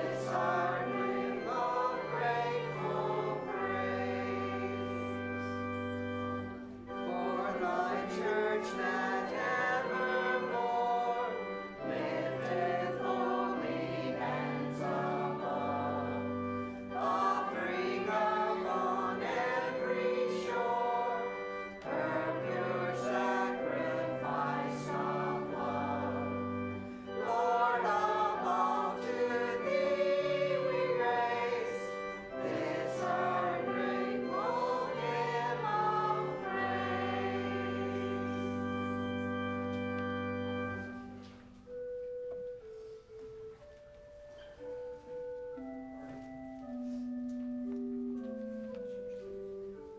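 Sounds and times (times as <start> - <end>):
church choir singing: 0.0 - 43.8, 44.4 - 49.9.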